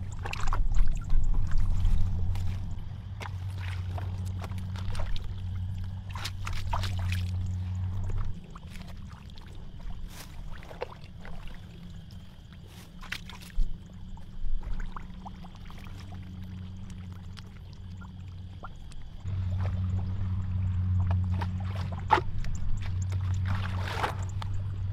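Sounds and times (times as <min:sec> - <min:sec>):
hands squelching in wet mud: 0:00.0 - 0:24.9
steady low hum: 0:00.0 - 0:24.9
water splashing and dripping: 0:00.0 - 0:24.9.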